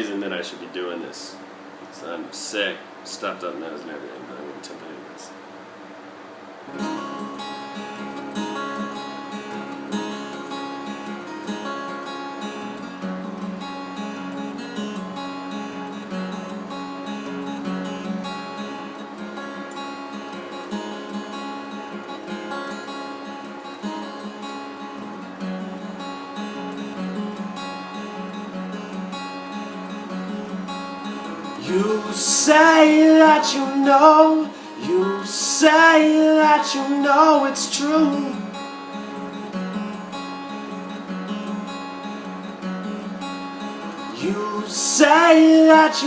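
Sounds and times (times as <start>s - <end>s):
acoustic guitar strumming: 6.7s - 46.0s.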